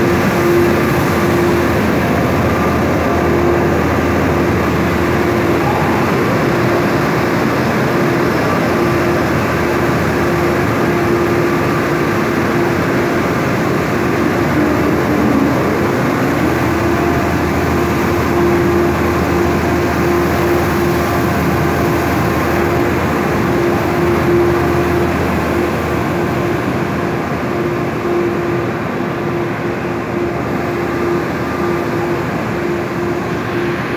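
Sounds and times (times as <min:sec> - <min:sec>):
milling machinery running: 0:00.0 - 0:33.9.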